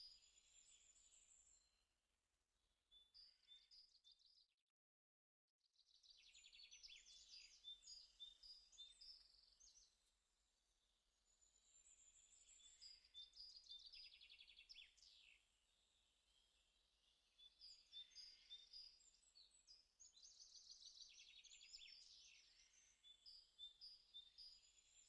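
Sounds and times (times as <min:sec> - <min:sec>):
small birds chirping and trilling: 0:00.0 - 0:01.8, 0:02.9 - 0:04.4, 0:05.8 - 0:25.0.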